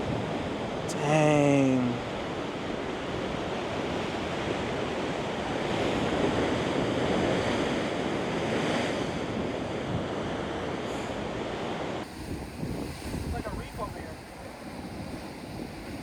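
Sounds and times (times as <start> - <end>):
surf washing against rocks: 0.0 - 16.0
wind buffeting microphone: 2.0 - 16.0.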